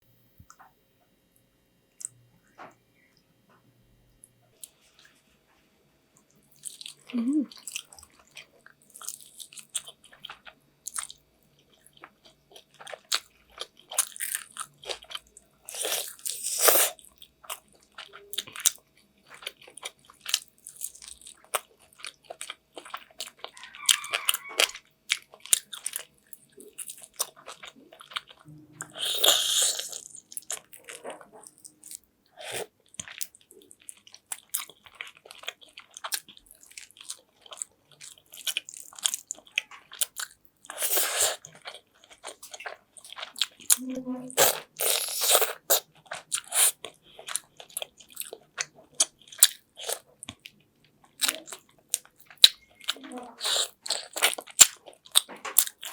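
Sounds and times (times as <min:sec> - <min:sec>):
person chewing food: 0:06.2 - 0:55.9.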